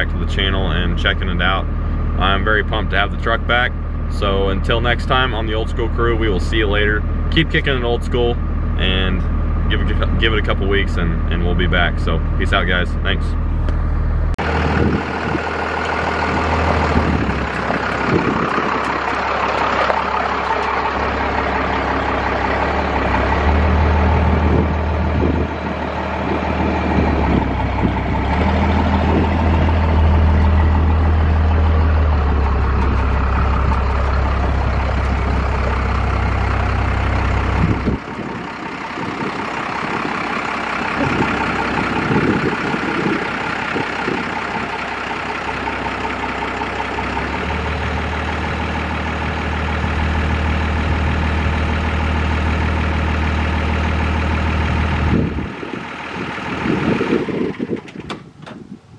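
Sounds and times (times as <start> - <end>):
truck engine droning: 0.0 - 58.9.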